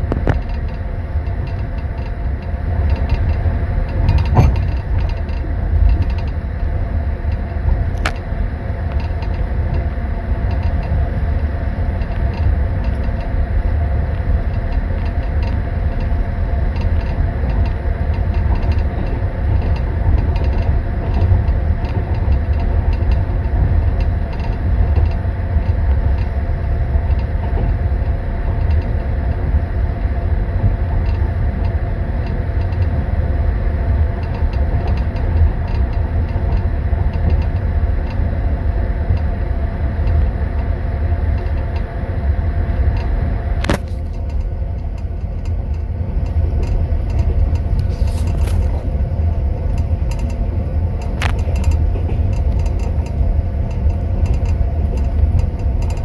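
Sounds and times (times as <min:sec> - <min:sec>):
train rumble with faint clatter: 0:00.0 - 0:56.0.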